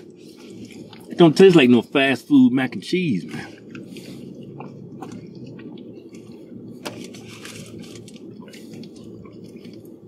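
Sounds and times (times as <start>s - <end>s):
car cabin hum: 0.0s - 10.0s
eating and drinking noises: 0.0s - 10.0s.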